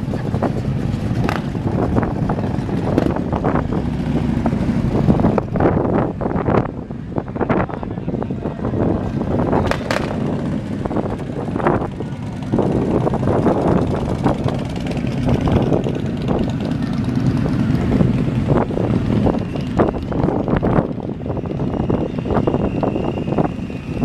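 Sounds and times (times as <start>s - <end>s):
cars driving slowly past: 0.0s - 24.0s
motorcycles passing: 0.0s - 24.0s.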